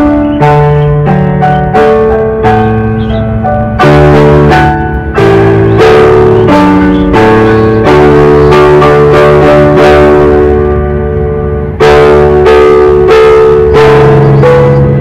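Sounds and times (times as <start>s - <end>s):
instrumental chords struck and held: 0.0s - 15.0s.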